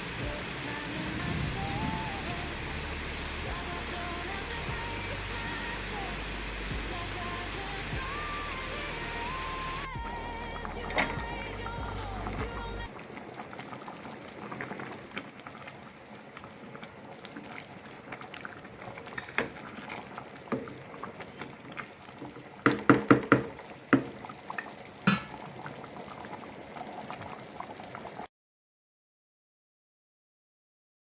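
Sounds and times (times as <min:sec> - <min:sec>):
liquid boiling in a pot: 0:00.0 - 0:28.3.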